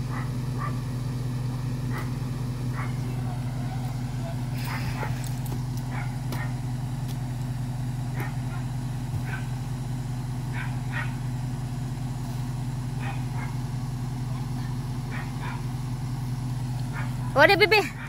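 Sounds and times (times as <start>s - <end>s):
pickup engine idling: 0.0s - 18.0s.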